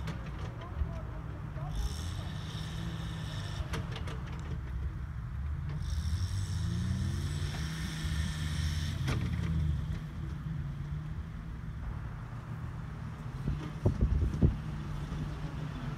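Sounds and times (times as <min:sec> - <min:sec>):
van engine running at low revs: 0:00.0 - 0:15.9.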